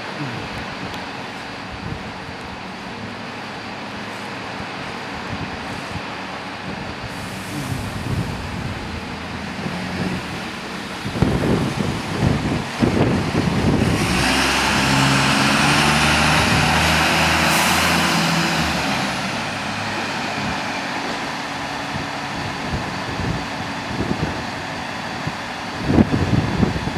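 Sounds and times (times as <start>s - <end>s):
bus engine running: 0.0s - 26.9s.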